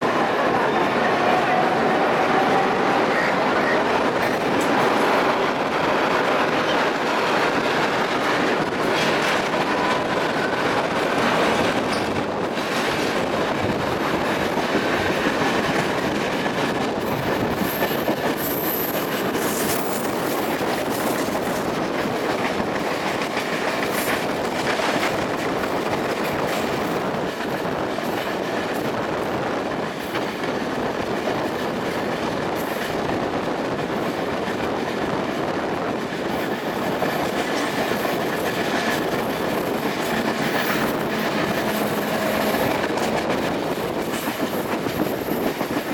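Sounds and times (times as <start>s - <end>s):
passing train running noise: 0.0s - 45.9s
train wheels clattering on track: 0.0s - 45.9s.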